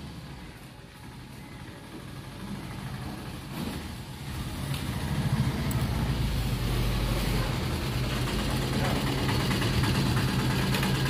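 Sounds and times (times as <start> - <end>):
auto-rickshaw engine running: 0.0 - 11.0.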